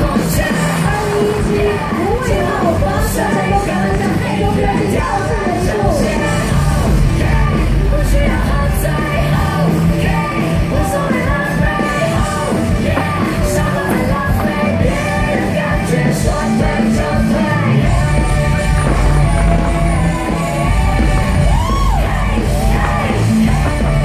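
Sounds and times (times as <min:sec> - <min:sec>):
heavy bass line: 0:00.0 - 0:24.0
loud music with singing: 0:00.0 - 0:24.0
yelled vocals: 0:00.0 - 0:24.0.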